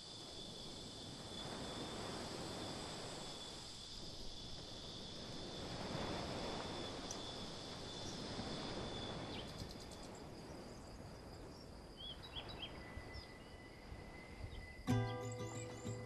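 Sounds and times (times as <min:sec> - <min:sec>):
high insect trills: 0:00.0 - 0:16.0.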